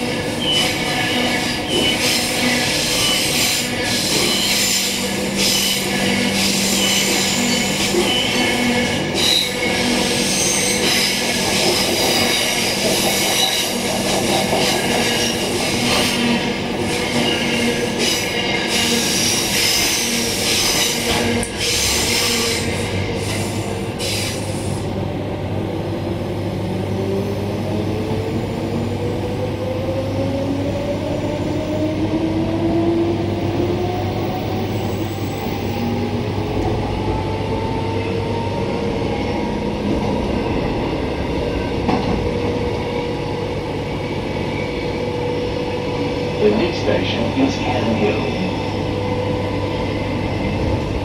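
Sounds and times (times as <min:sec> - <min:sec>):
train wheel and rail noise: 0:00.0 - 0:51.0.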